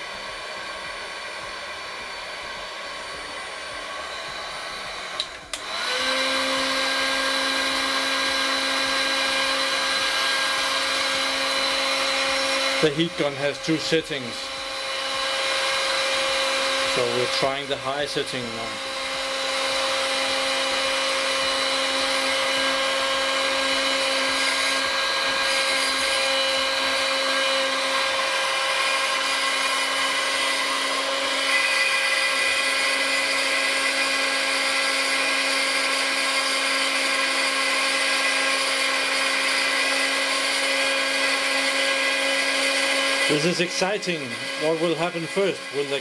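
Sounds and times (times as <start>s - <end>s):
heat gun fan whine: 0.0s - 46.0s.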